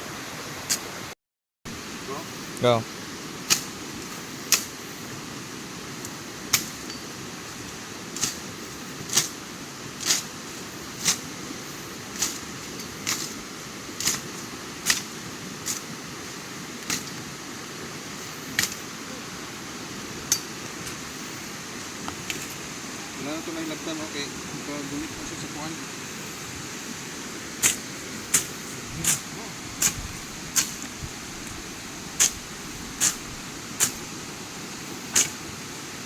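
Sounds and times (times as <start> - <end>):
steady hiss: 1.7 - 36.0.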